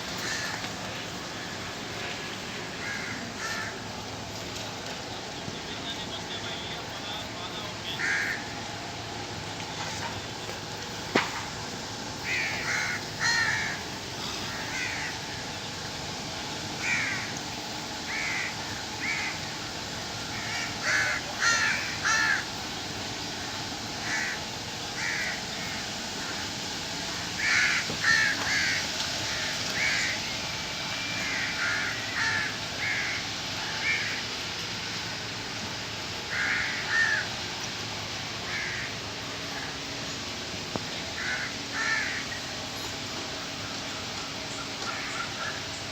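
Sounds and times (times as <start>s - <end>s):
birds calling: 0.0s - 45.9s
steady background hum: 0.0s - 45.9s.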